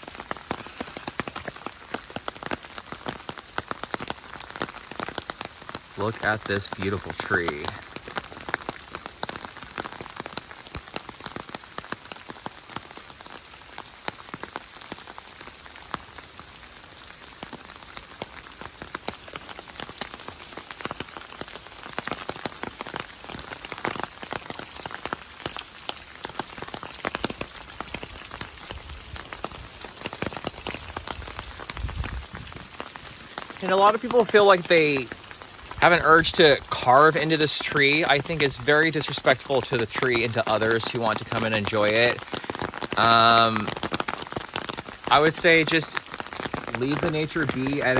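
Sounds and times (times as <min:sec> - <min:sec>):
rain hissing: 0:00.0 - 0:47.9
raindrops ticking close by: 0:00.0 - 0:47.9.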